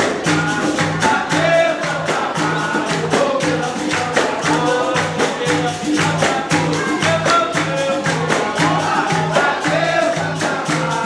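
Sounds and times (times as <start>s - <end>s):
pandeiro jingling: 0.0s - 11.0s
voices singing a chant: 0.0s - 11.0s.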